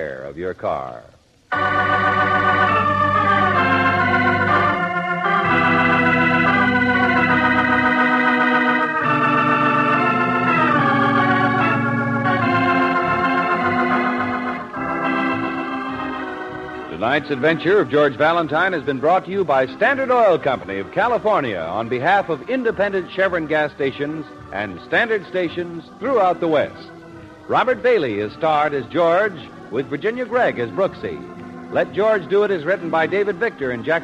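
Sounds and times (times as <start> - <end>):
organ playing held chords: 0.9 - 34.0.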